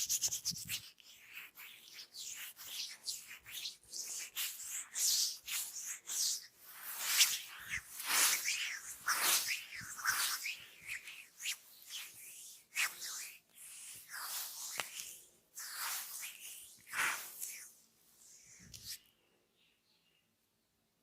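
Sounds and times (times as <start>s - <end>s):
hands rubbing over skin: 0.0s - 19.0s.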